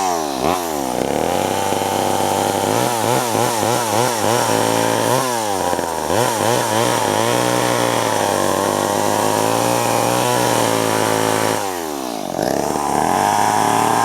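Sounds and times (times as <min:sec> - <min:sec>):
chainsaw running at high speed: 0:00.0 - 0:14.0.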